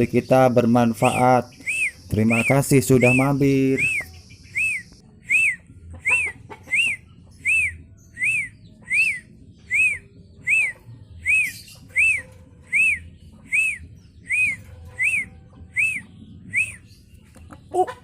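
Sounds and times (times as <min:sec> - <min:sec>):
bird whistling call: 0:01.0 - 0:17.0.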